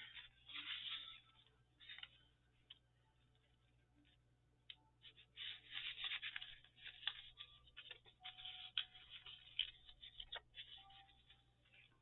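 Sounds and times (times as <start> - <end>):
paper tags rustling: 0.0 - 2.8, 5.0 - 12.0.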